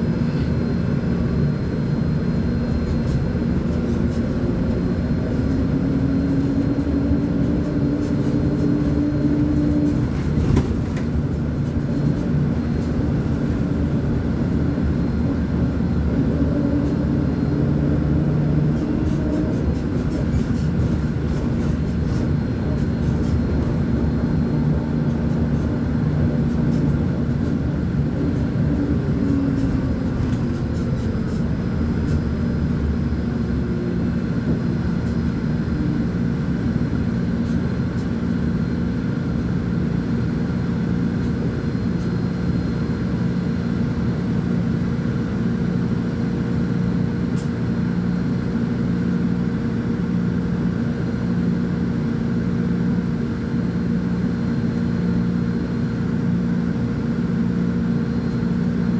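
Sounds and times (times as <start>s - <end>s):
bus diesel engine drone: 0.0s - 58.9s.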